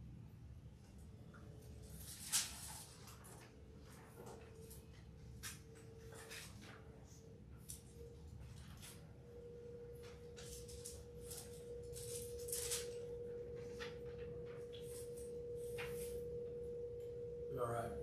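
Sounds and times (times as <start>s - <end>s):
faint steady tone: 3.3s - 18.0s.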